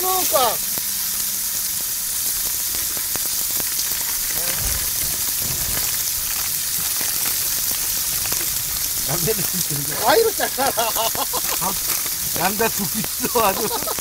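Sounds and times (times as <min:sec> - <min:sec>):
food sizzling on a grill: 0:00.0 - 0:14.0.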